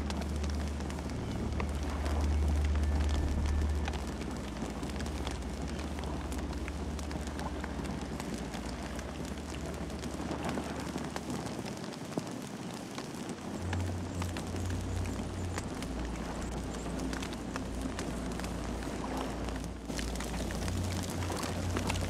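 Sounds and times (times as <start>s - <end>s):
low rumble: 0.0s - 11.6s, 13.5s - 22.0s
campfire crackling and popping: 0.0s - 22.0s.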